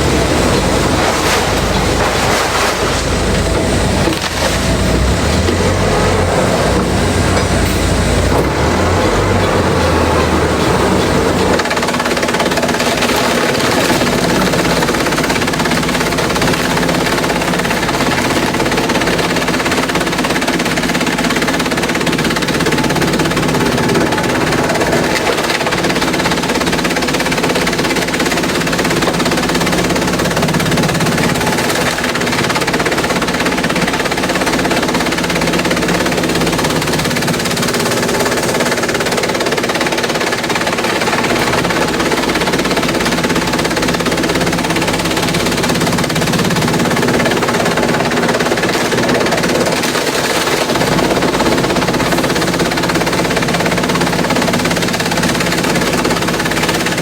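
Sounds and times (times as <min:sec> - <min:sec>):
shredder breaking up bamboo: 0:00.0 - 0:57.0.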